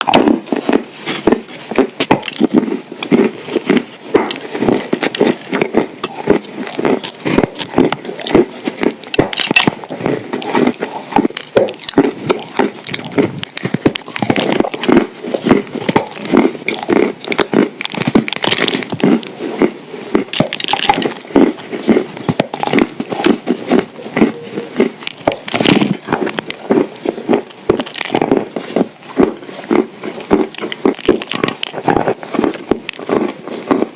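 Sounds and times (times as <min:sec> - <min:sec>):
crunching and chewing: 0:00.0 - 0:33.9.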